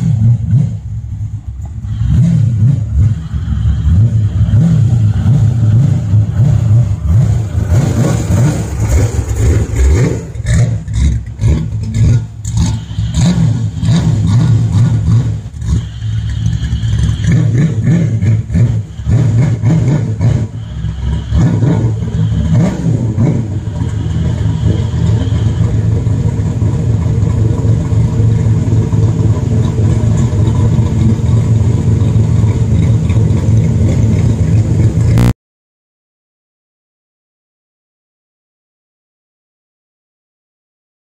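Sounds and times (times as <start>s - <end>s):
car engine idling: 0.0s - 35.3s.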